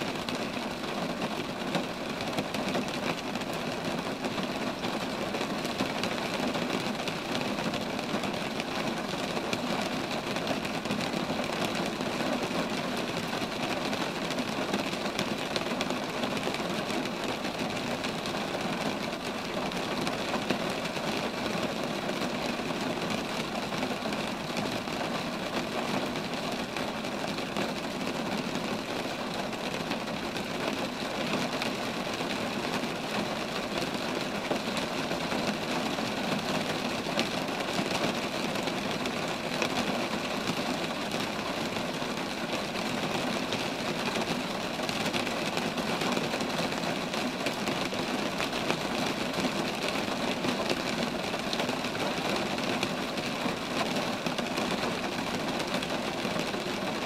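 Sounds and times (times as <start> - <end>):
rain falling on trees: 0.0 - 57.0.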